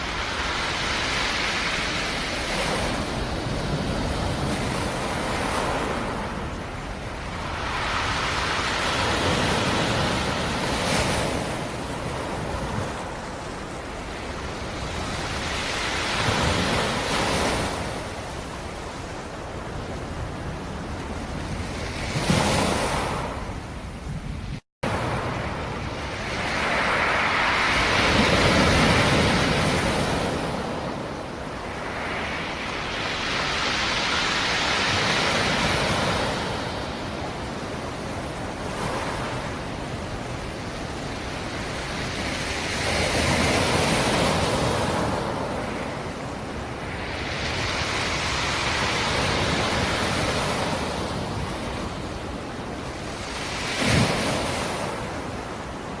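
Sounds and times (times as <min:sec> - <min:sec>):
wave splash: 0:00.0 - 0:19.0, 0:24.8 - 0:56.0
waves rolling in and washing back: 0:00.0 - 0:56.0.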